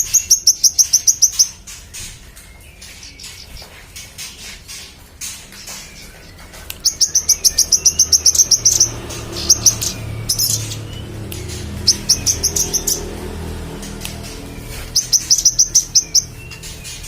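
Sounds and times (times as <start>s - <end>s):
songbird high chirps: 0.0s - 17.0s.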